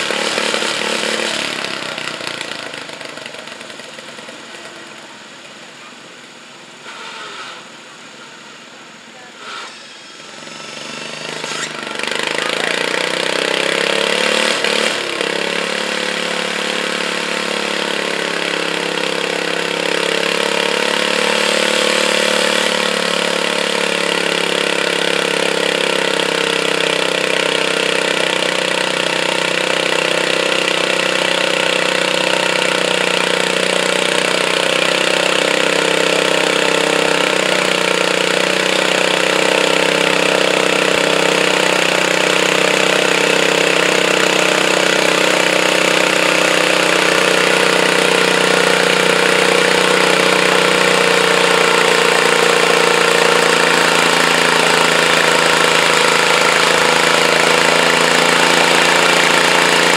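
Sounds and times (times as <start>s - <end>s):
tractor engine running hard: 0.0s - 59.9s.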